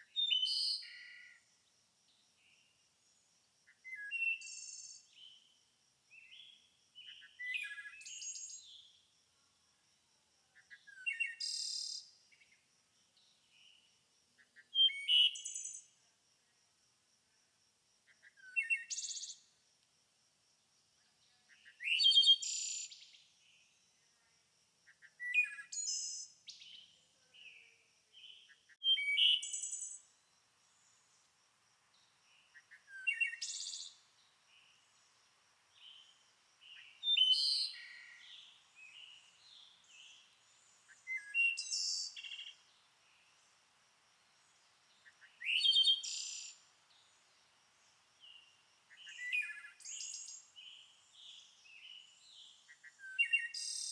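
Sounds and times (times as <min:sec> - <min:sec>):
songbird singing: 0:00.0 - 0:09.1, 0:10.4 - 0:16.1, 0:18.0 - 0:19.6, 0:21.0 - 0:24.2, 0:24.9 - 0:53.9.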